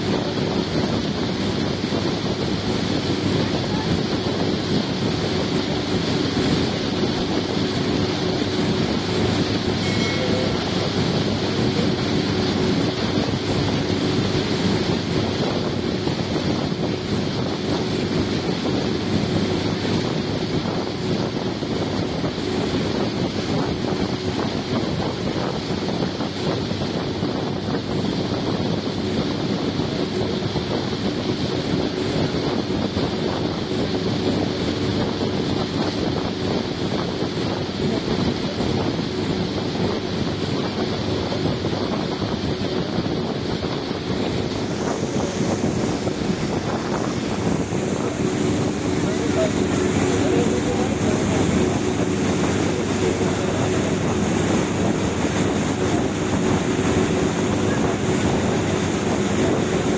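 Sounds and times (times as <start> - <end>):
boat engine hum: 0.0 - 59.9
churning water rushing: 0.0 - 59.9
wind buffeting microphone: 0.0 - 59.9.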